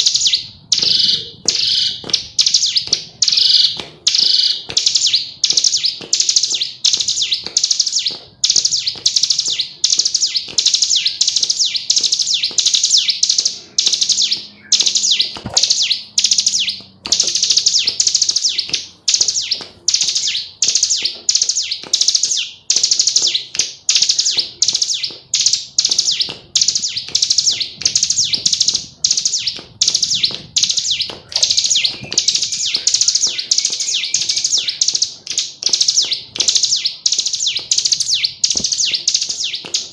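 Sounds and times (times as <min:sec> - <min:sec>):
bird high rapid chattering: 0:00.0 - 0:39.9.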